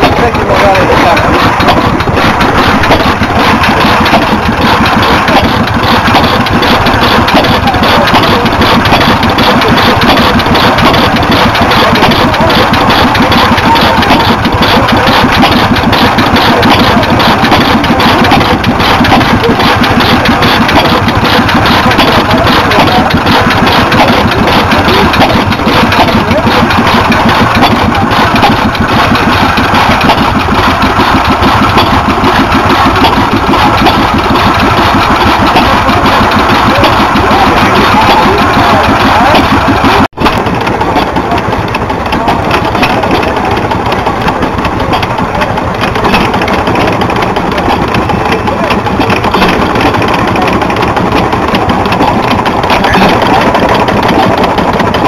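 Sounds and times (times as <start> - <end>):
stationary engines clattering: 0.0 - 55.0.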